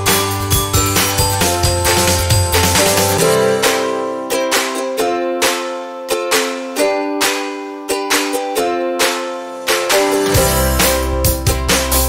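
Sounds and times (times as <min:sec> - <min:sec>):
plucked string instrument strumming: 0:00.0 - 0:12.0.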